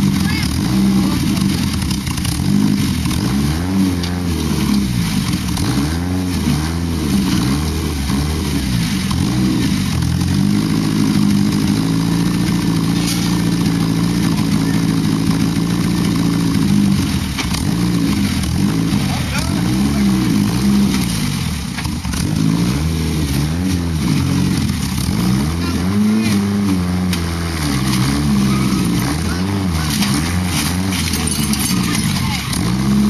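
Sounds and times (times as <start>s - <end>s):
engine revving under load: 0.0s - 33.0s.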